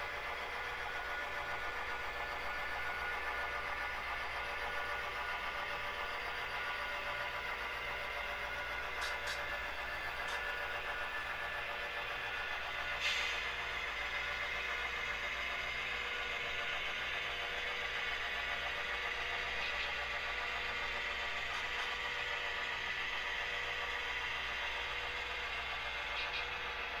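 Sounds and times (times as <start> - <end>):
diesel locomotive idling: 0.0 - 27.0.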